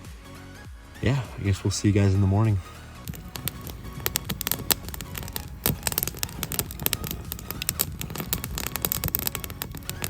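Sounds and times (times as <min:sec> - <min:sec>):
campfire crackling and popping: 0:01.0 - 0:10.0.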